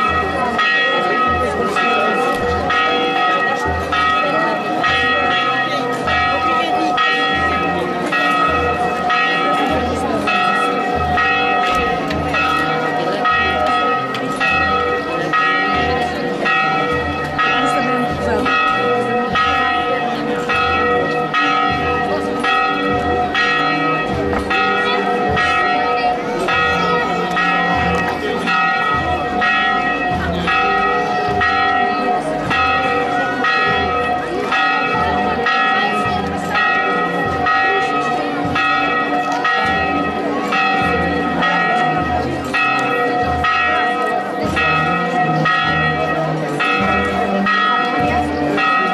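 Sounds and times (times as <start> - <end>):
church bells ringing: 0.0 - 48.9.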